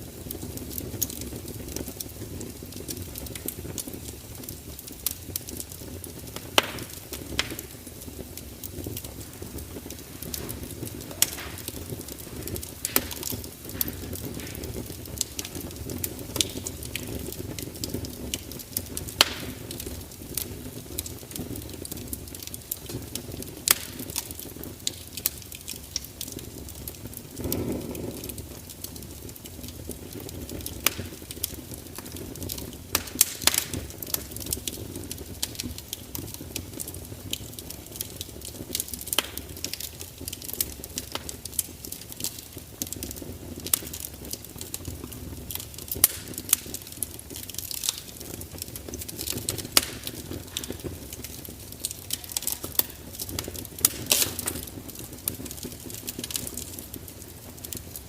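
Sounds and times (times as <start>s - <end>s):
fire crackling and popping: 0.0s - 58.0s
rush of flame: 0.0s - 58.0s.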